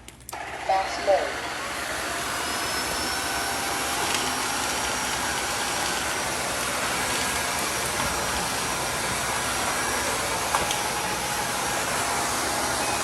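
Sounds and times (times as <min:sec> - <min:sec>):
vacuum mop motor and suction: 0:00.3 - 0:13.0.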